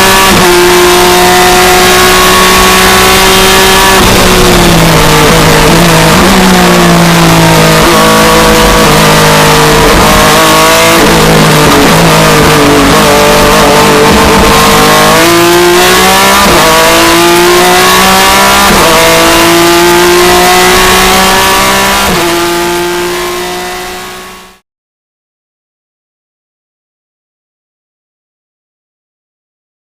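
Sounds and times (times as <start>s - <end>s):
car engine revving through gears: 0.0s - 24.6s.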